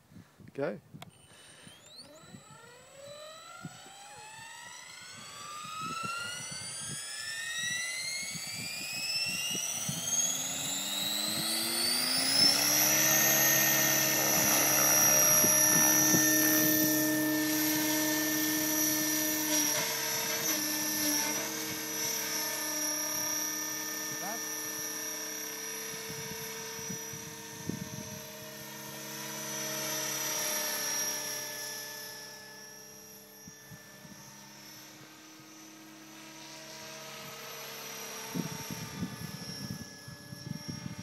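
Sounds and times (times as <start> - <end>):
model helicopter rotor whine: 0.9 - 41.0.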